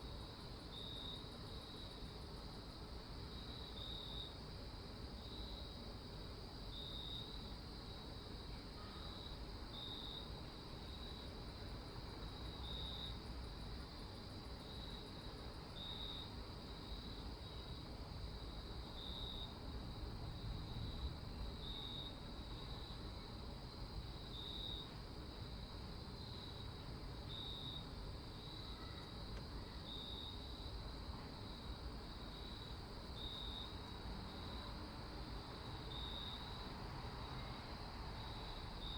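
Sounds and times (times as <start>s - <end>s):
crickets chirping: 0.0s - 38.9s
low background hiss: 0.0s - 38.9s.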